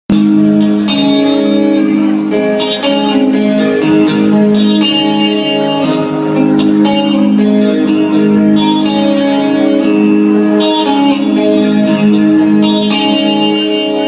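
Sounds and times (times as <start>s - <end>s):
guitar playing chords: 0.1s - 14.0s.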